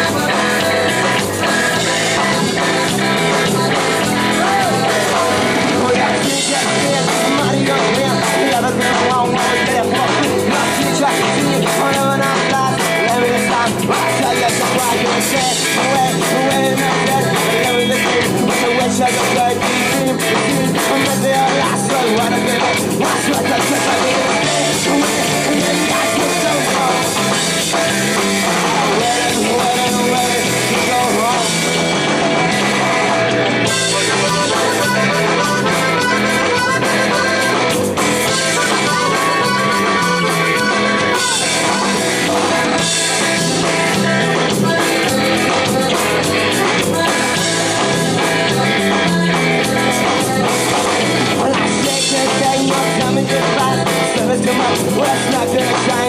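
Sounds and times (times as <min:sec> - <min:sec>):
live punk rock band: 0:00.0 - 0:56.0
person singing: 0:00.0 - 0:56.0.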